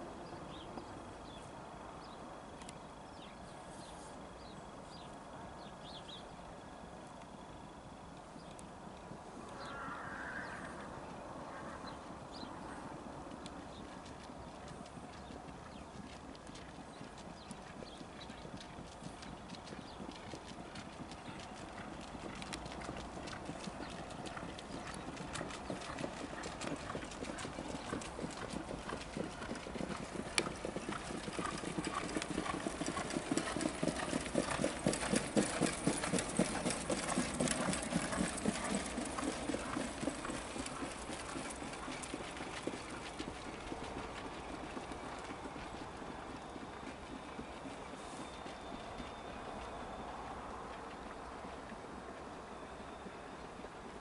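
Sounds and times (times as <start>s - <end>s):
trotting hoofbeats on sand: 8.3s - 54.0s.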